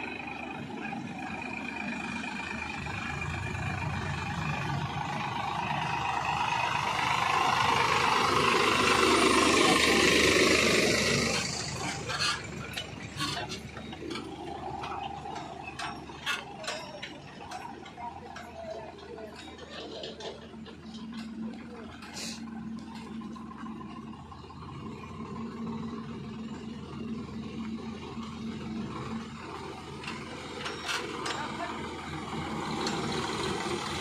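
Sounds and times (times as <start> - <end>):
tractor diesel engine passing: 0.0 - 34.0.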